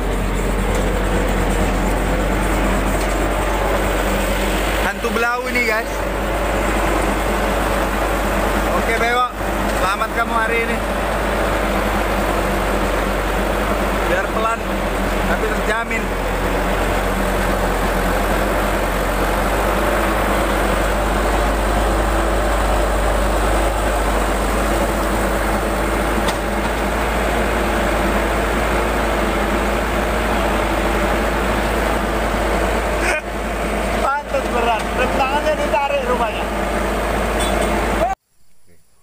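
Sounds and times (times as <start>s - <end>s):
diesel truck engine running: 0.0s - 38.2s.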